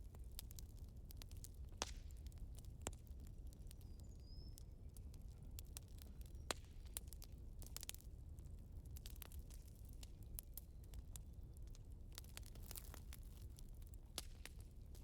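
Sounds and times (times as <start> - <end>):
sharp snaps of fire: 0.0 - 15.0
wood fire crackling: 0.0 - 15.0.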